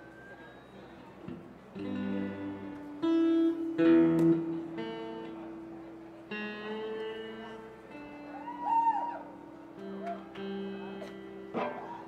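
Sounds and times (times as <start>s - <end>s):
guitar chords ringing: 1.7s - 8.6s, 9.2s - 12.0s.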